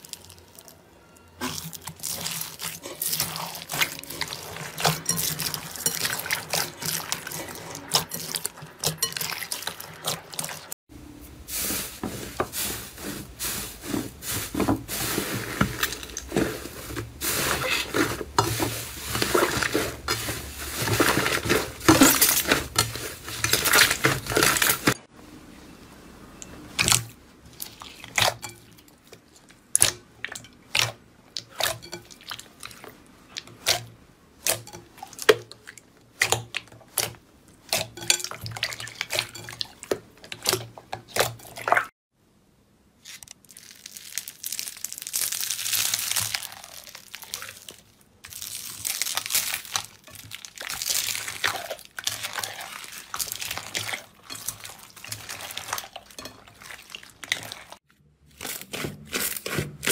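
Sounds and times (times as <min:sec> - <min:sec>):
wet slime squelches: 0:00.0 - 0:25.0, 0:26.6 - 0:41.9, 0:43.0 - 0:59.9.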